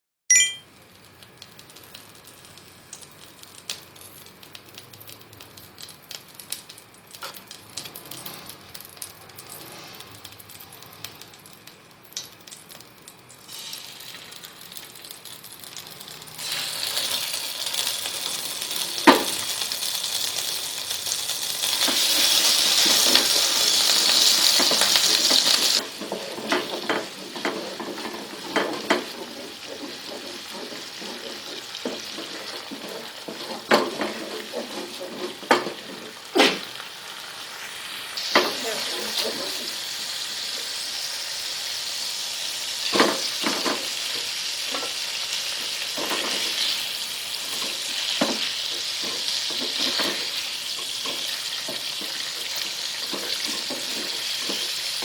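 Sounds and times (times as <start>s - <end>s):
food frying in hot oil: 0.7s - 55.0s.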